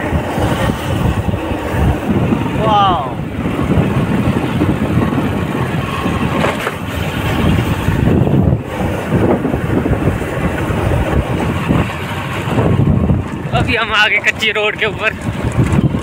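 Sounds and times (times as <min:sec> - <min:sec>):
motorcycle engine and road noise: 0:00.0 - 0:16.0.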